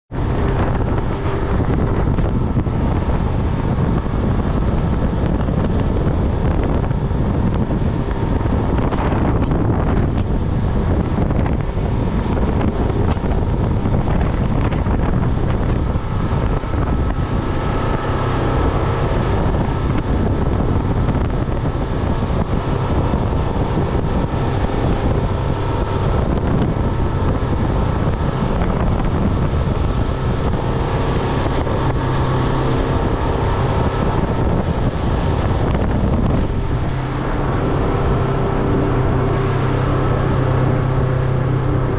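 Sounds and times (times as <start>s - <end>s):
boat engine running: 0.0s - 41.9s
water rushing along hull: 0.0s - 41.9s
wind buffeting microphone: 0.1s - 41.9s.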